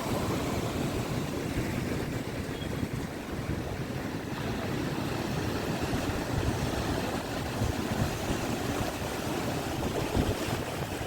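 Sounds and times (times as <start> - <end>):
waves breaking: 0.0 - 11.0
wind buffeting microphone: 0.0 - 11.0.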